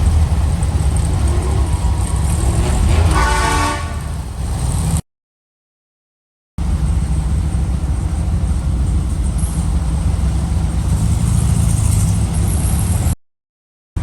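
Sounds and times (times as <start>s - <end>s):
car engine and road rumble: 0.0s - 5.0s, 6.6s - 13.2s.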